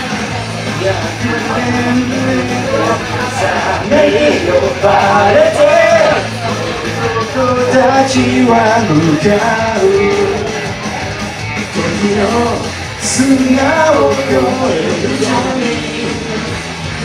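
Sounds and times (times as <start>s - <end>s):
rock karaoke backing track: 0.0s - 17.0s
man singing into microphone: 0.8s - 6.3s, 7.0s - 10.6s, 11.7s - 16.5s.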